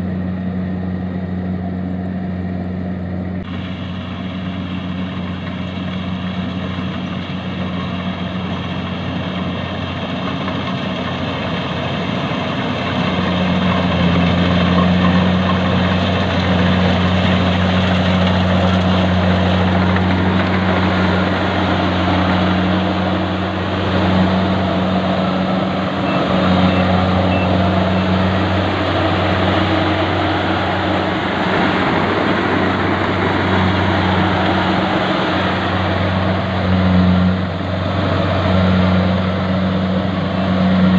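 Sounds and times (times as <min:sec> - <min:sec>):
harvesting machine engine humming: 0:00.0 - 0:40.9.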